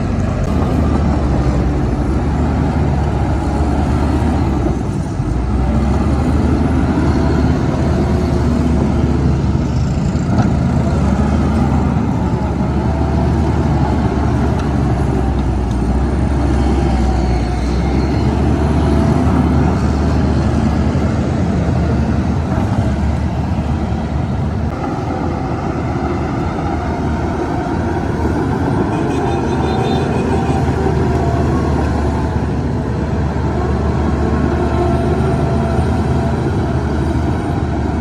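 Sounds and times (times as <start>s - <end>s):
heavy diesel machinery engine drone: 0.0s - 38.0s.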